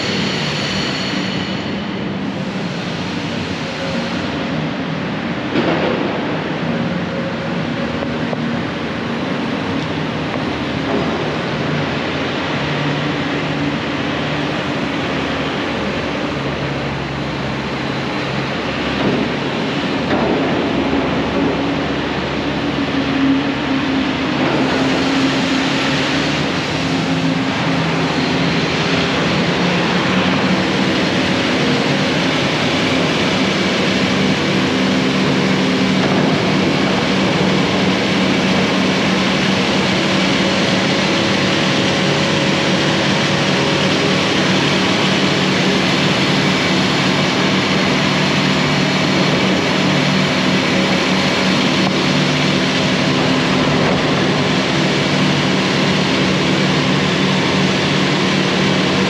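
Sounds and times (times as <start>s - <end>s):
excavator diesel engines working: 0.0s - 59.0s.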